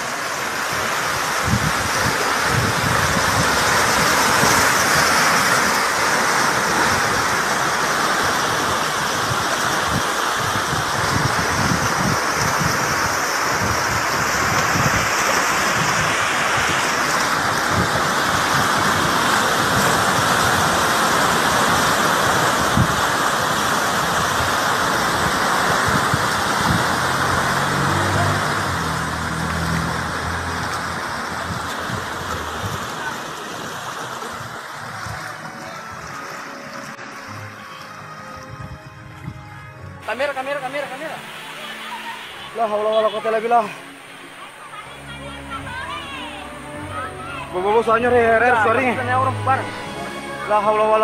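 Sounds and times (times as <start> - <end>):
seawater rushing and churning: 0.0 - 51.0.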